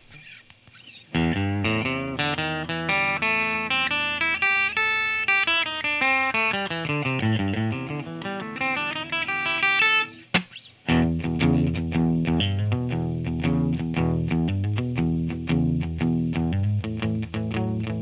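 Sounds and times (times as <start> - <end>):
electric guitar picked notes: 1.0 - 18.0.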